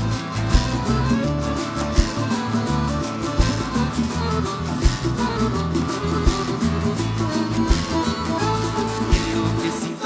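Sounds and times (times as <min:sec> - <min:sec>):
bass line: 0:00.0 - 0:09.9
guitars strumming chords: 0:00.0 - 0:10.0
drum beat: 0:00.4 - 0:09.8.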